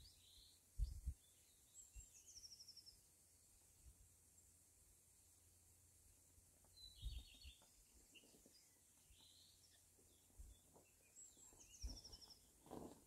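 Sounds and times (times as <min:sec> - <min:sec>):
faint songbird chirps: 0:00.0 - 0:13.0.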